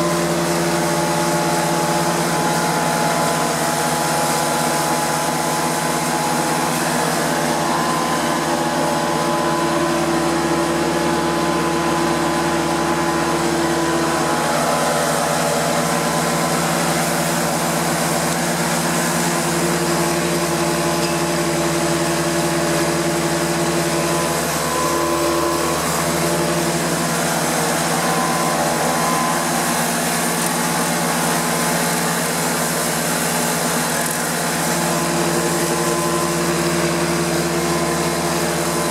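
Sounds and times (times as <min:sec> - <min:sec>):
carpet cleaning machine engine drone: 0:00.0 - 0:38.9.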